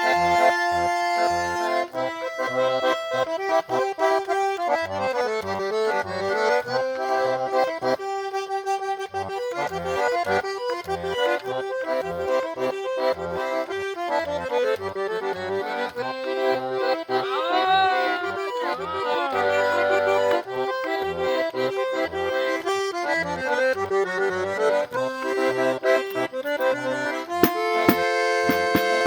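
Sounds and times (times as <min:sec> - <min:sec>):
button accordion playing a tune: 0:00.0 - 0:29.0.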